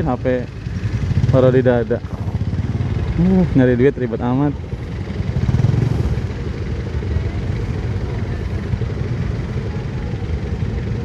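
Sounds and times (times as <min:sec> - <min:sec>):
motorcycle engines idling: 0:00.0 - 0:11.0.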